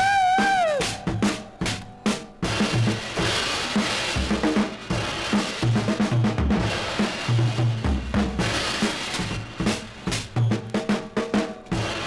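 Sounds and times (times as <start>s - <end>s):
drum kit playing: 0.0s - 12.0s.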